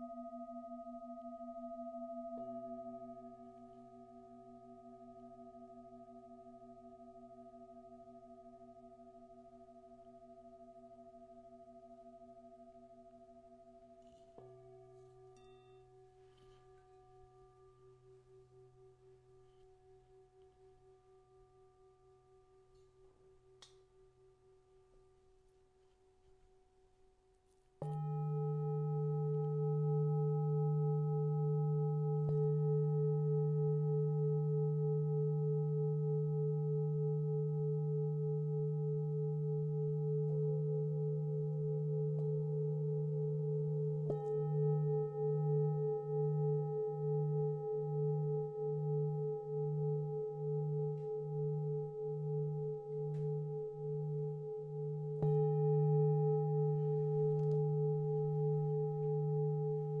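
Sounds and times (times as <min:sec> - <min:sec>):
singing bowls ringing: 0:00.0 - 0:23.0, 0:27.8 - 1:00.0.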